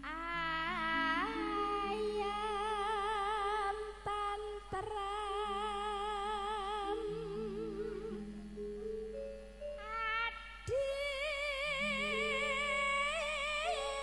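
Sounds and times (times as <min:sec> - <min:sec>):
woman singing with vibrato: 0:00.0 - 0:08.9, 0:09.8 - 0:14.0.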